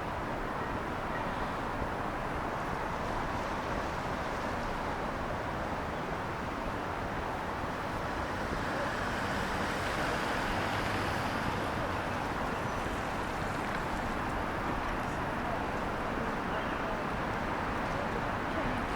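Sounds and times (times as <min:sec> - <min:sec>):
cars passing on wet roads: 0:01.5 - 0:18.9.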